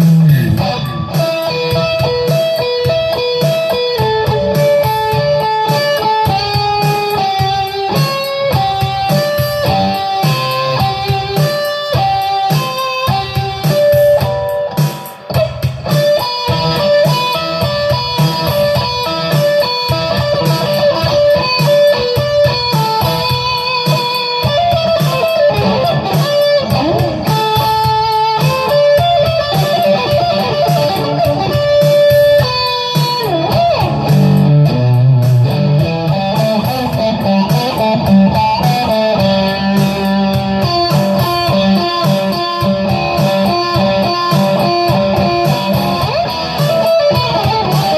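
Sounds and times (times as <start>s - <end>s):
backing music: 0.0s - 47.9s
electric guitar lead: 0.0s - 47.9s.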